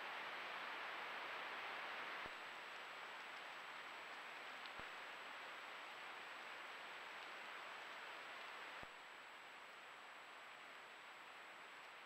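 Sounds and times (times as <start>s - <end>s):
faint microphone hiss: 0.0s - 12.0s.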